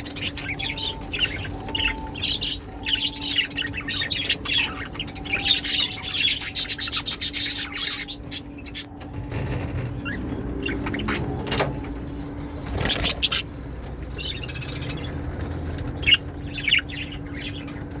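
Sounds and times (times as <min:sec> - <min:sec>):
lovebirds chirping: 0:00.0 - 0:18.0
steady low hum: 0:00.0 - 0:18.0.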